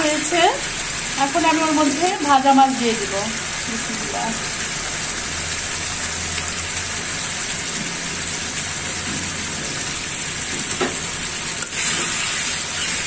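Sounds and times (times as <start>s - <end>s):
gravy sizzling and bubbling: 0.0s - 13.0s.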